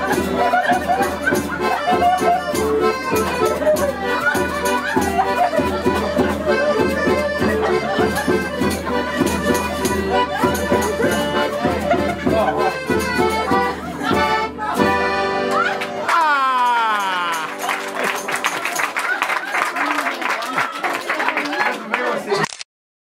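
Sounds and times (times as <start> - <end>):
lively accordion music: 0.0 - 16.1, 17.2 - 20.0.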